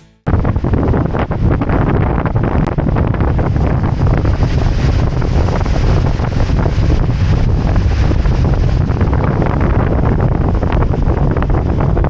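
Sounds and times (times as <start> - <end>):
wind buffeting microphone: 0.3 - 12.0.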